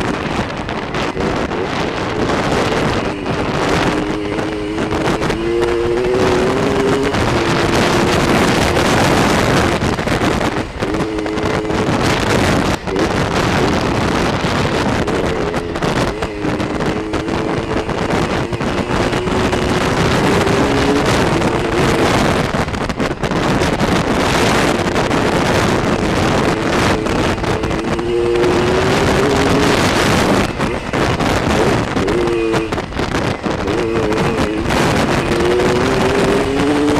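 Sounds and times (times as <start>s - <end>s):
dirt bike engine revving: 0.0s - 36.9s
wind rush on microphone: 0.0s - 36.9s.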